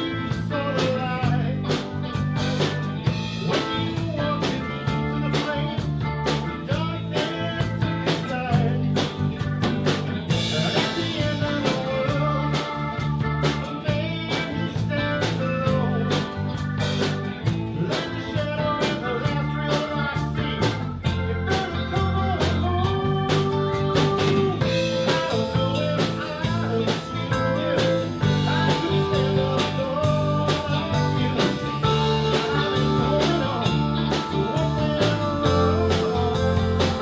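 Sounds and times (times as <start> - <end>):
blues-rock band playing: 0.0 - 37.0
electric guitar bent notes: 0.0 - 37.0
steady drum beat: 0.0 - 37.0.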